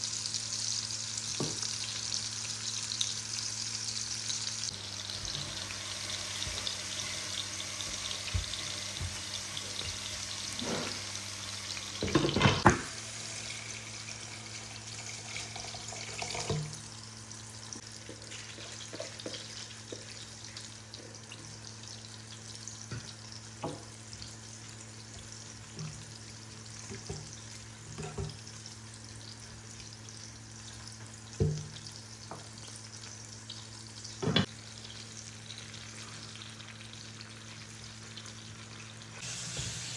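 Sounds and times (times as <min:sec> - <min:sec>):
sizzling or running water hiss: 0:00.0 - 0:39.9.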